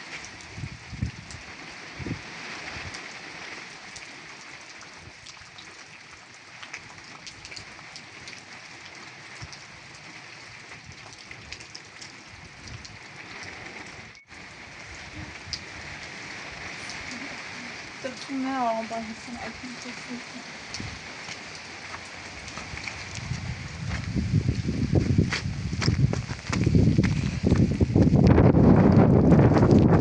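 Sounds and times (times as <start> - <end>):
heavy rain: 0.0 - 30.0
raindrops ticking: 0.0 - 30.0.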